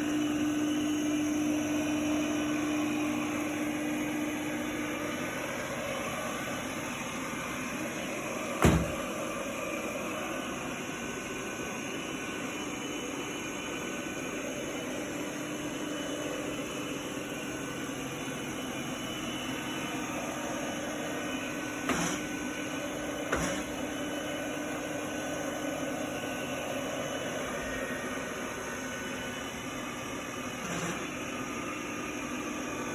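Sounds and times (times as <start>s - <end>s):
robot vacuum humming: 0.0s - 32.9s.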